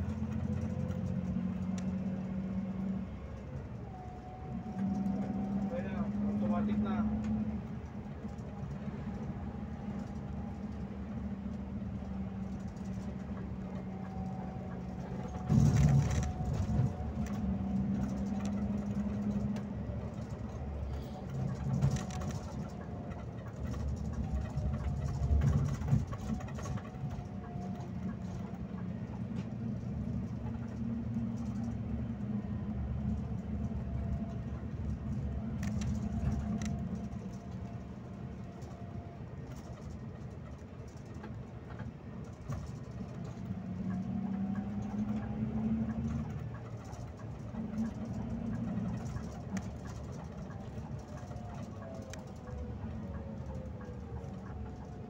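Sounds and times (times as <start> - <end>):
coach engine droning: 0.0 - 55.0
road noise: 0.0 - 55.0.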